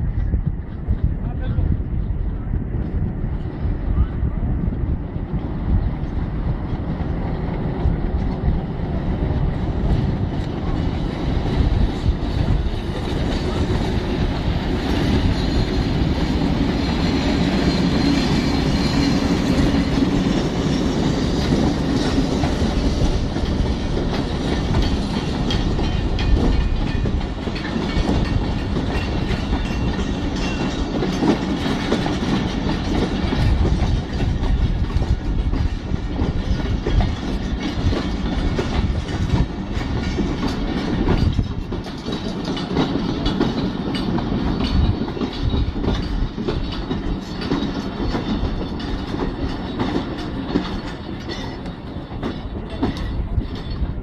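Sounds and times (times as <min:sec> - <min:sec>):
train rumble: 0:00.0 - 0:54.0
wheels clacking over rail joints: 0:06.0 - 0:54.0.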